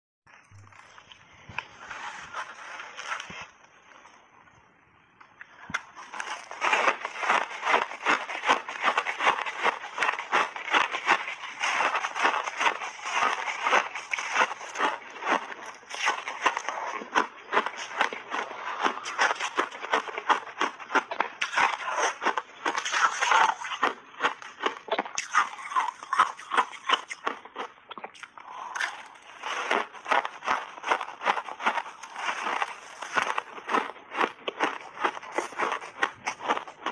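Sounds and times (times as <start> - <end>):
teeth crunching ice block: 5.7 - 36.9.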